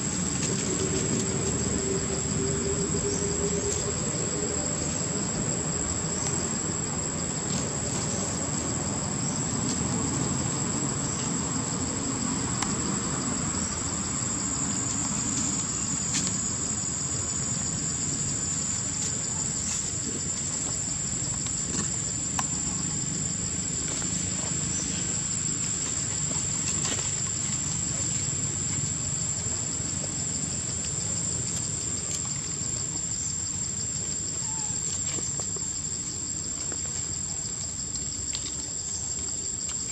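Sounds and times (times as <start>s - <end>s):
high-pitched insect drone: 0.0s - 36.2s.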